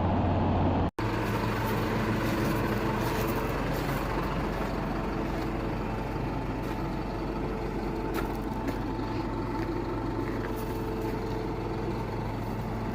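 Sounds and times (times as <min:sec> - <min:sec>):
truck engine running: 0:00.0 - 0:12.9.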